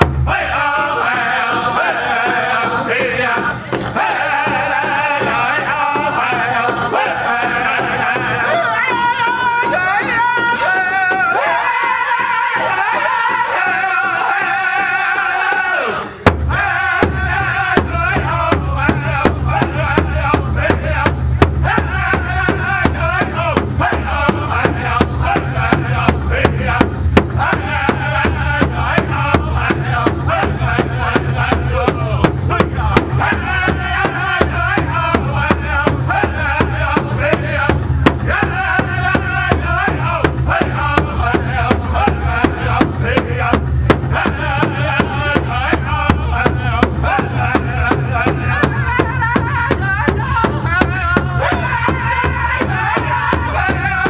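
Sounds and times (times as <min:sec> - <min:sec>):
large hand drum beating: 0:00.0 - 0:14.9, 0:16.2 - 0:54.0
group singing in unison: 0:00.0 - 0:54.0.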